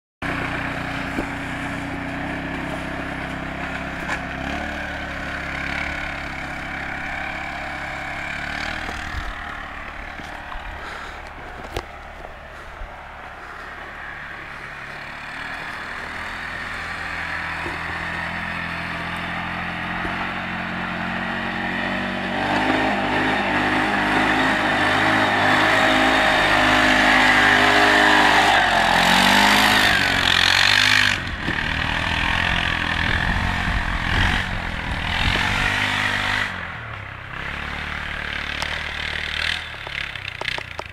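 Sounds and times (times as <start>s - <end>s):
atv engine driving past: 0.2s - 40.9s
engine revs rising and falling: 0.2s - 40.9s.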